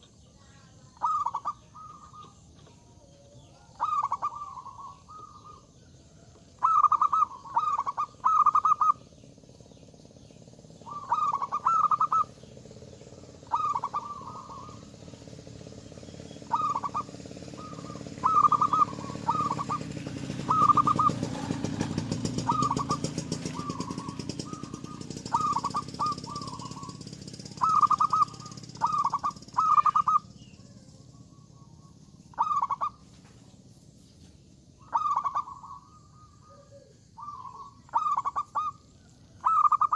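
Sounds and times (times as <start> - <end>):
dove cooing: 0.0 - 9.2, 10.8 - 33.2, 34.8 - 39.9.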